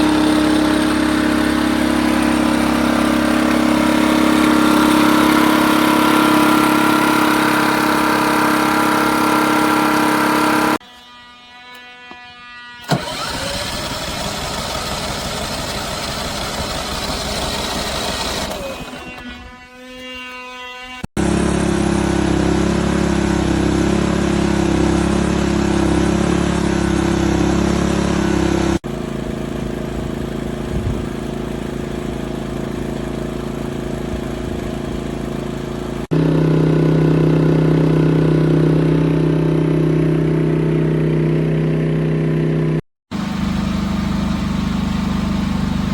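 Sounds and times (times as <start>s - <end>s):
generator engine running: 0.0s - 10.8s, 12.8s - 19.0s, 21.2s - 45.9s.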